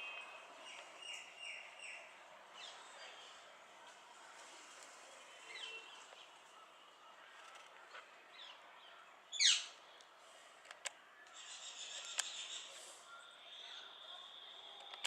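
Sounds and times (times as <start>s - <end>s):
small birds chirping: 0.0s - 3.6s, 5.2s - 10.1s, 11.2s - 14.9s.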